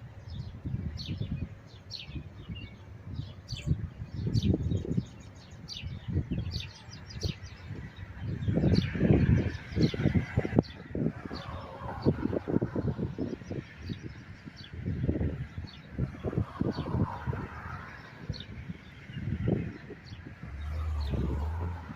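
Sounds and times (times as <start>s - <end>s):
small birds chirping: 0.0s - 21.9s
wind buffeting microphone: 0.0s - 21.9s.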